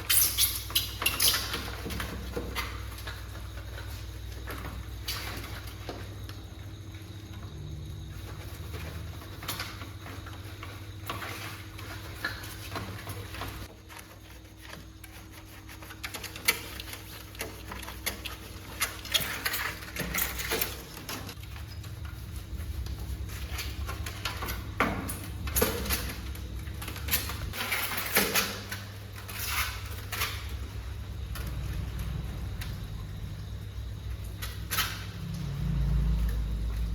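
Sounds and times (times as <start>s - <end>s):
hand tools clicking and scraping: 0.0s - 6.5s, 7.4s - 32.6s.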